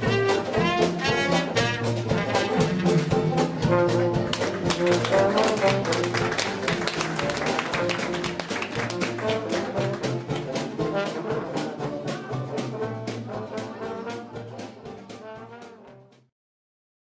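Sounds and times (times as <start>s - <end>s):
jazz band playing: 0.0s - 16.3s.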